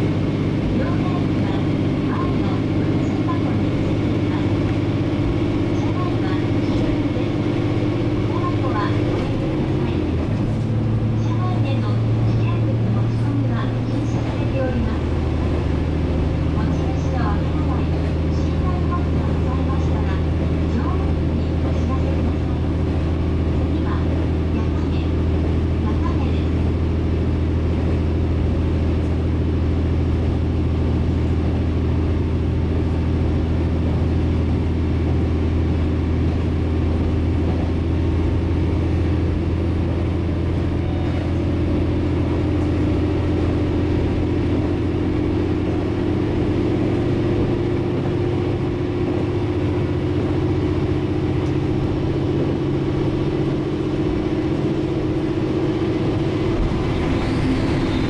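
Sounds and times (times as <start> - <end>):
diesel engine drone: 0.0 - 58.0
wheels rolling on rail: 0.7 - 58.0.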